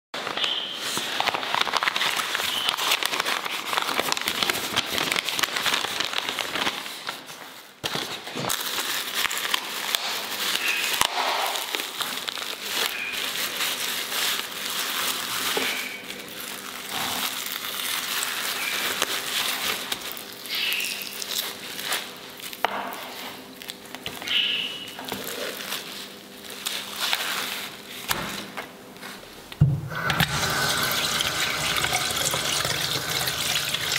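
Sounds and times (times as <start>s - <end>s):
plastic bag crinkling: 0.2s - 22.6s, 24.8s - 28.0s, 30.3s - 33.9s.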